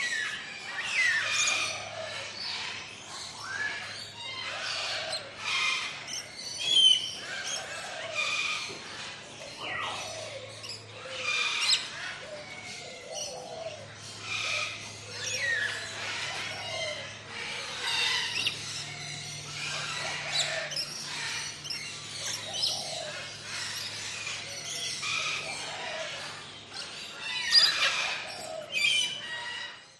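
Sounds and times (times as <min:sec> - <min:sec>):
chorus of birds chirping: 0:00.0 - 0:29.9.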